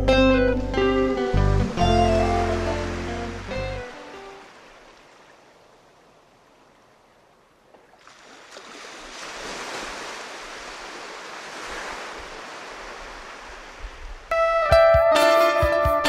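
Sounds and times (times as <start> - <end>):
sea waves washing: 0.0 - 14.4.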